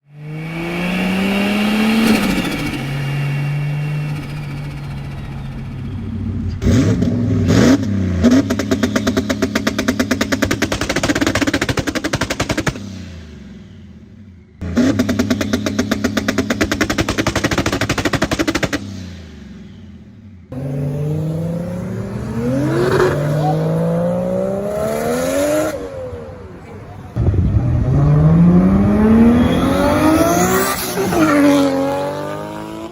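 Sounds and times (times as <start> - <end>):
car engines revving hard: 0.0 - 32.9.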